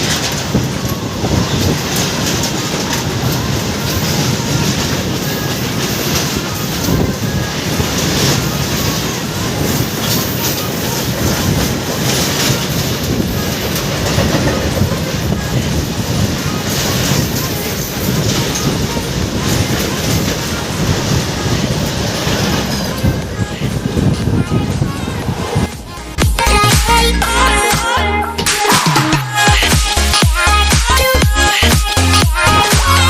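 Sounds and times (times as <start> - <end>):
electric train rumbling: 0.0 - 33.0
wheels clicking over rails: 0.0 - 33.0.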